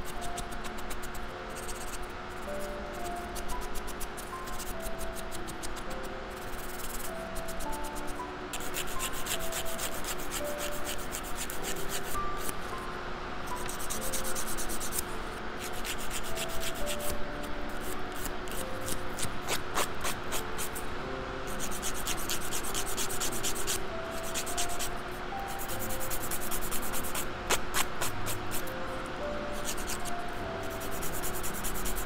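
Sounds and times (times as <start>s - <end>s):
nail file rasping on fingernails: 0.0s - 2.0s, 3.3s - 5.8s, 6.4s - 12.6s, 13.6s - 15.0s, 15.6s - 20.8s, 21.5s - 24.9s, 25.5s - 28.6s, 29.6s - 32.0s.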